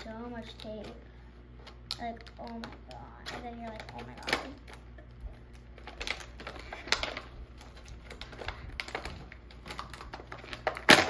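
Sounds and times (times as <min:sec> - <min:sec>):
plastic packaging crinkling: 0:01.8 - 0:11.0.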